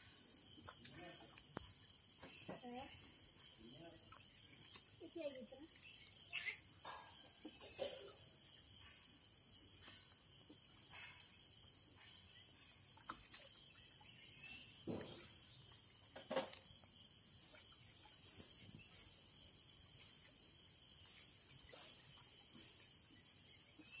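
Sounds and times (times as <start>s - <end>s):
faint insect chirring: 0.0s - 24.0s.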